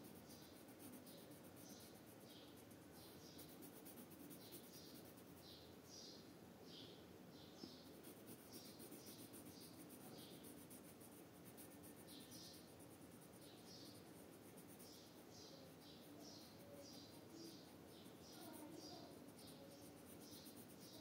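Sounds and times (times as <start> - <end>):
pencil scratching on paper: 0.0 - 5.6, 7.6 - 21.0.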